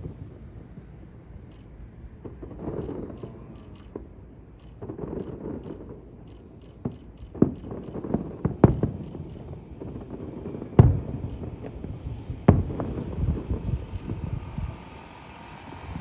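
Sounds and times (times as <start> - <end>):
fireworks booming and cracking: 0.0 - 14.8.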